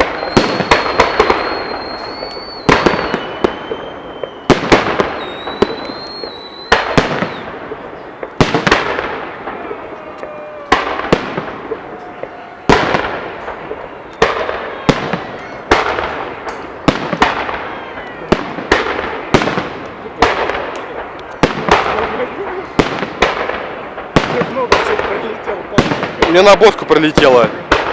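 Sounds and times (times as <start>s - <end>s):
fireworks bangs: 0.0s - 27.9s
fireworks crackle: 0.0s - 27.9s.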